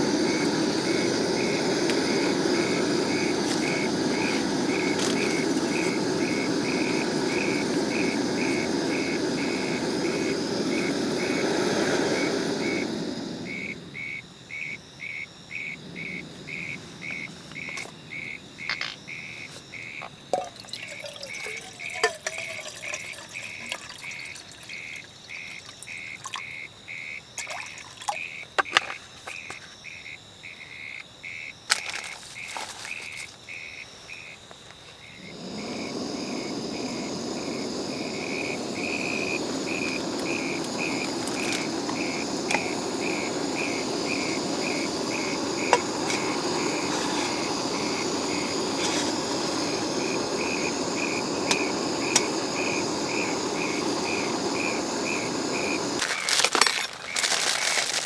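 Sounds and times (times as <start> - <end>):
loud steady rushing hiss: 0.0 - 26.2, 35.0 - 58.0
insect chirping rhythmically: 0.0 - 58.0.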